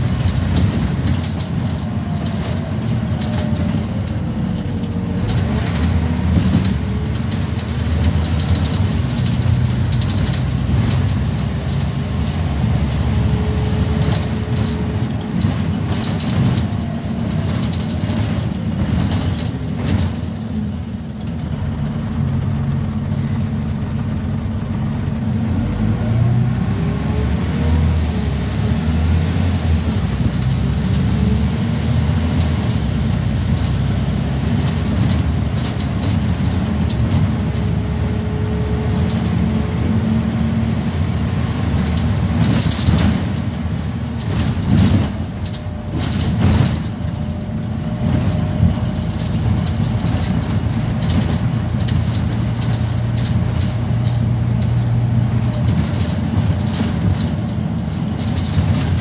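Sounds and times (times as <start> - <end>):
bus engine and road rumble: 0.0 - 59.0
engine whine: 0.0 - 59.0.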